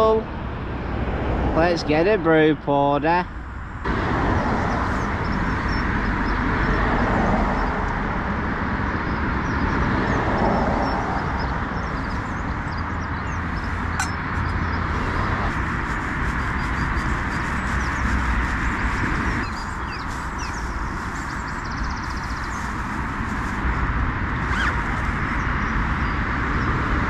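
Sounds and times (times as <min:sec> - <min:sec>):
road traffic roar: 0:00.0 - 0:27.0.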